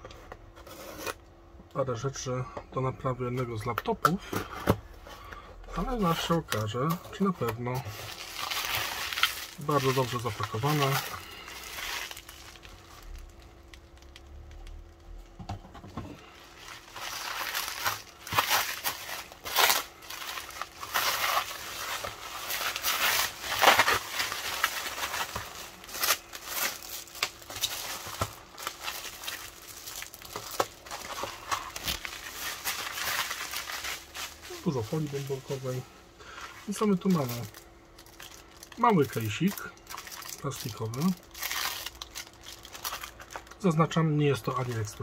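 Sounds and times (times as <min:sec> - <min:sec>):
bubble wrap crinkling: 0:05.8 - 0:15.4, 0:16.2 - 0:45.0.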